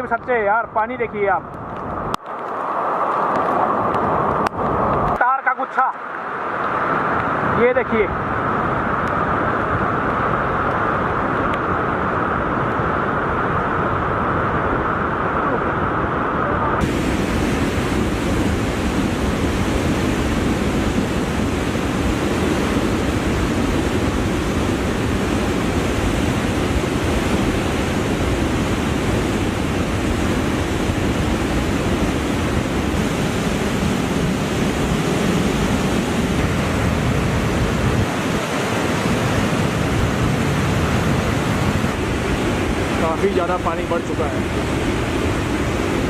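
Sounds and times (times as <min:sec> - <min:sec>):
river in flood rushing: 0:00.0 - 0:46.0.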